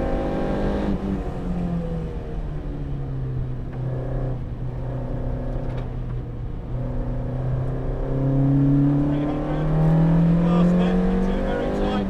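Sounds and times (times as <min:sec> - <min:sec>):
rally car engine: 0:00.0 - 0:12.0.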